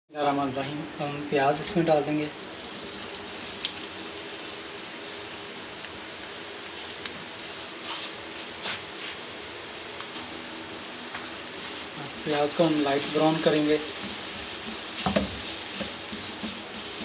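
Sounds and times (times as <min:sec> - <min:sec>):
onions sizzling in hot oil: 0:01.6 - 0:17.0.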